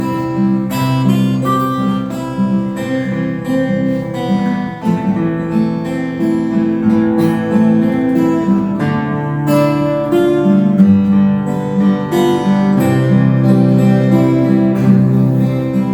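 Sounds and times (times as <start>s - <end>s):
acoustic guitar strumming: 0.0s - 15.9s.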